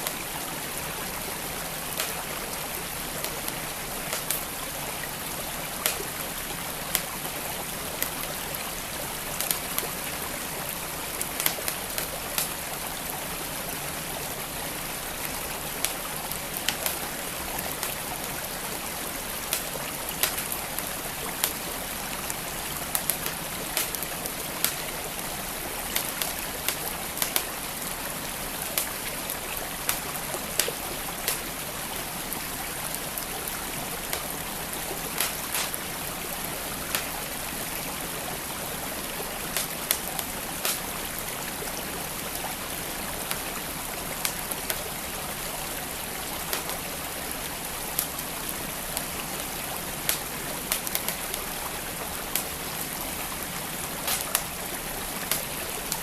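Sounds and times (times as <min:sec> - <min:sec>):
stream flowing: 0:00.0 - 0:56.0
wood fire crackling and popping: 0:01.0 - 0:13.8, 0:14.7 - 0:31.8, 0:32.6 - 0:41.7, 0:42.9 - 0:45.4, 0:46.0 - 0:56.0.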